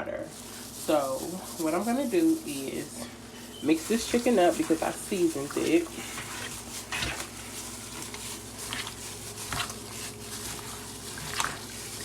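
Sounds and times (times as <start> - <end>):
low steady hum: 0.0 - 12.0
wet squishing of hand-mixed meat: 0.2 - 12.0.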